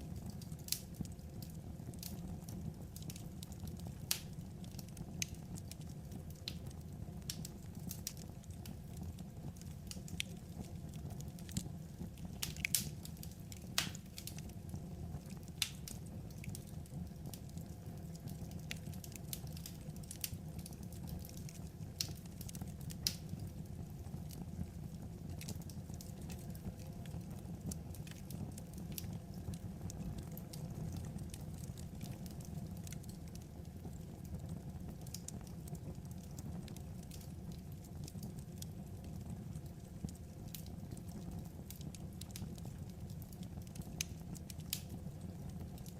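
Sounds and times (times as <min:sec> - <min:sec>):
low fire rumble: 0:00.0 - 0:45.9
wood fire crackling: 0:00.0 - 0:45.9.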